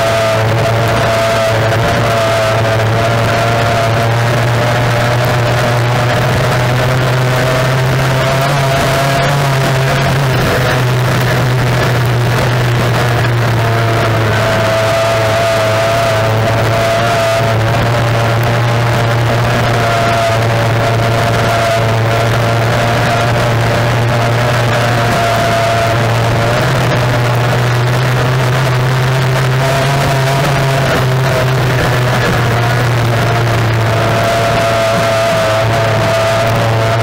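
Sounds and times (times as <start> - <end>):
outboard engine running hard: 0.0 - 37.0.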